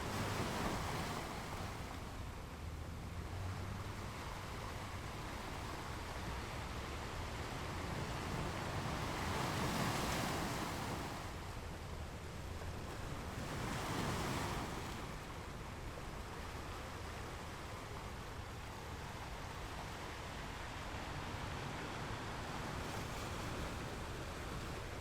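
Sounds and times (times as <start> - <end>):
ocean waves washing in: 0.0 - 25.0.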